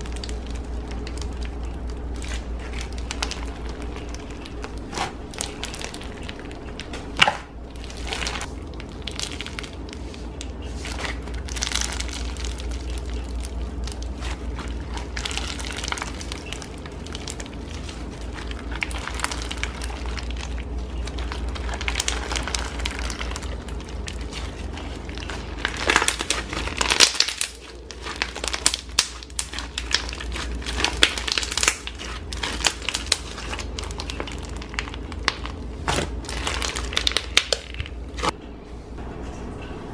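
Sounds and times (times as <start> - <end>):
slime crackling and crunching: 0.0 - 38.4.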